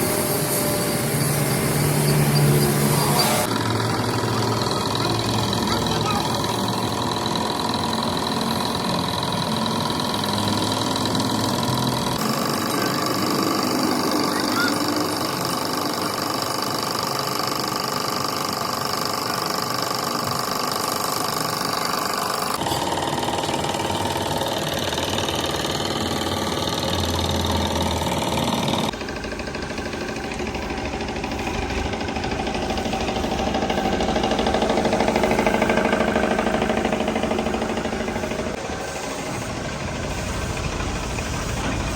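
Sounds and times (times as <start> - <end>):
machinery running: 0.0 - 41.9.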